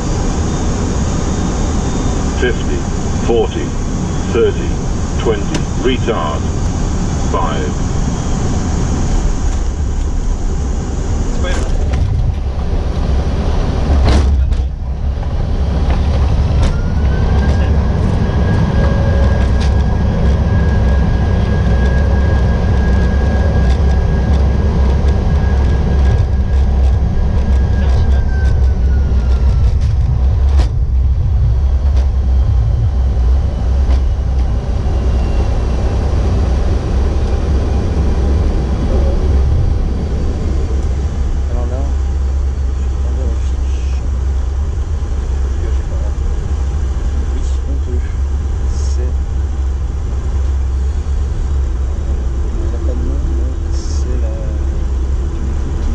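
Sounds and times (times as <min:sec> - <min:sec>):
jet engine whine: 0:00.0 - 0:55.9
wheels rumbling on runway: 0:00.0 - 0:55.9.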